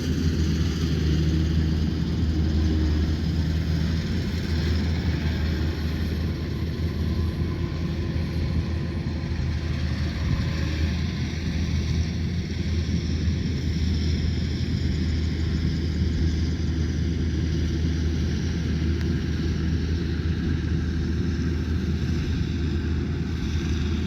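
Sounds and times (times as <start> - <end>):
combine harvester engine droning: 0.0 - 24.0.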